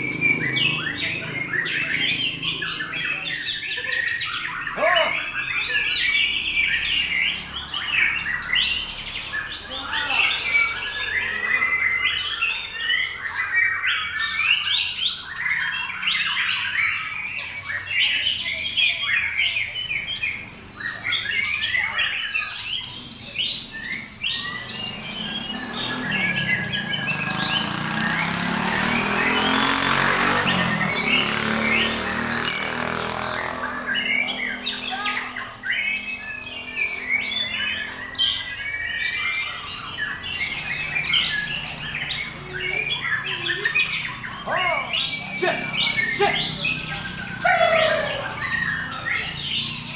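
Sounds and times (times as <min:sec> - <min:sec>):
birds singing chirps and trills: 0:00.0 - 0:49.9.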